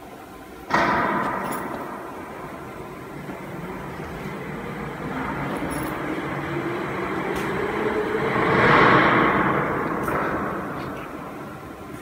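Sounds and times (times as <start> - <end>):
machinery running: 0.6 - 12.0
faint rising hum: 1.4 - 12.0.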